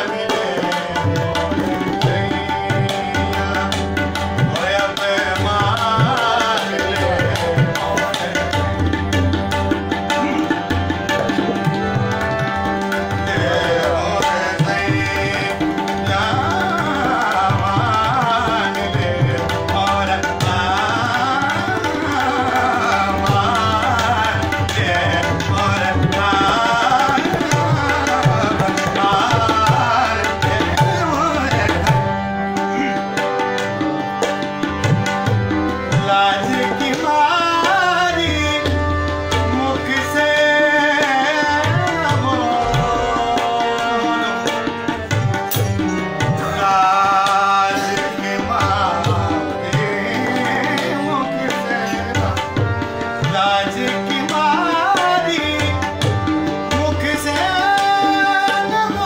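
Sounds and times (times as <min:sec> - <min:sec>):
tabla playing: 0:00.0 - 0:59.0.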